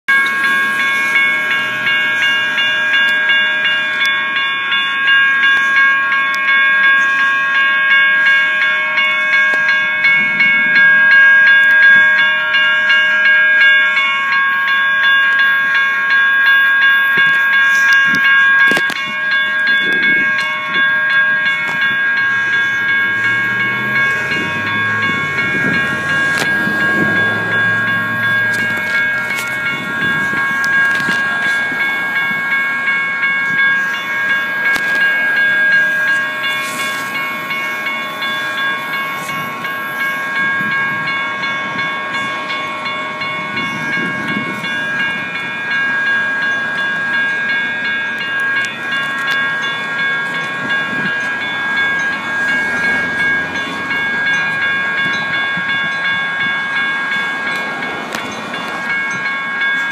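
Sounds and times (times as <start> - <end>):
electronic crossing bells ringing: 0.1 - 59.9.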